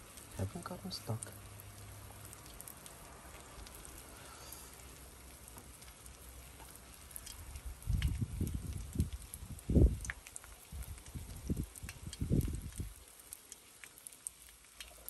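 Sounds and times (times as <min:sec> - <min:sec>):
eggs sizzling on a griddle: 0:00.0 - 0:15.0.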